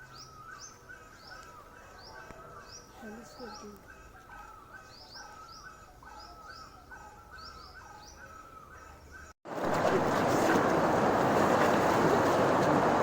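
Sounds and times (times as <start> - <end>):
birds chirping: 0.0 - 11.4.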